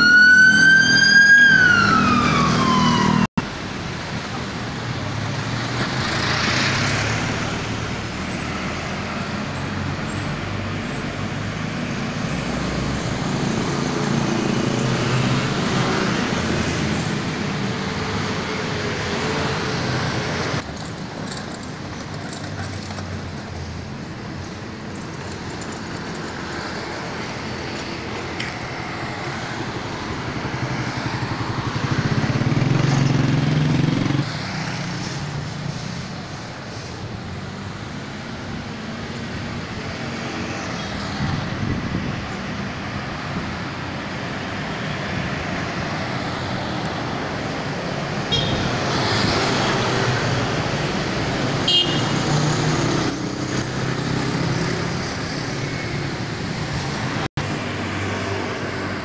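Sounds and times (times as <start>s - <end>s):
hum of traffic engines and tyres: 0.0s - 59.0s
vehicles passing close by: 0.0s - 59.0s.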